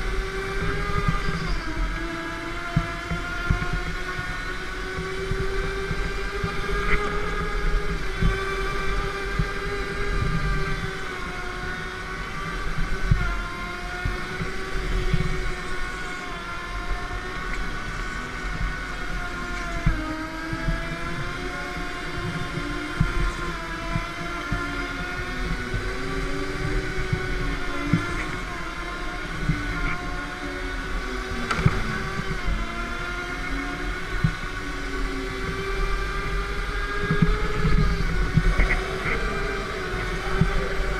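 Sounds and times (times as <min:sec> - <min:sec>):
go-kart motor droning: 0:00.0 - 0:40.9.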